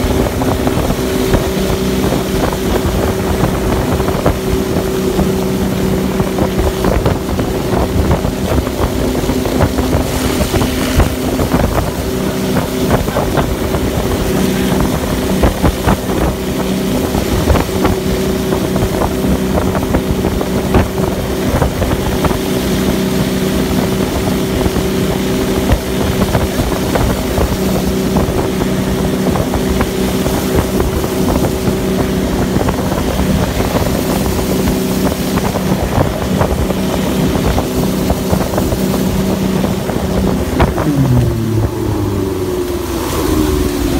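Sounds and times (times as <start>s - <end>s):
boat engine running: 0.0s - 43.9s
water spray rushing: 0.0s - 43.9s
wind on microphone: 0.0s - 43.9s.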